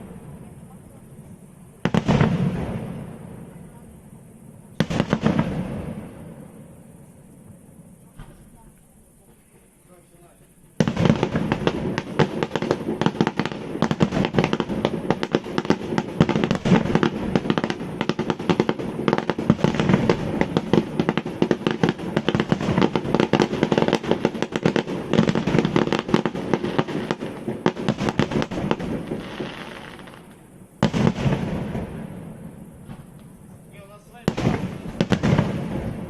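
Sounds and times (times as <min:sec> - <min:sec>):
fireworks bangs and crackles: 0:00.0 - 0:09.5, 0:10.2 - 0:36.0.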